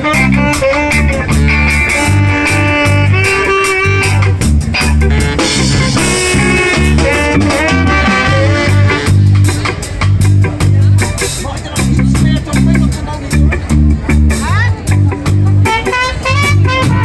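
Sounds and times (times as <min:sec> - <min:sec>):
ska band playing: 0:00.0 - 0:17.0.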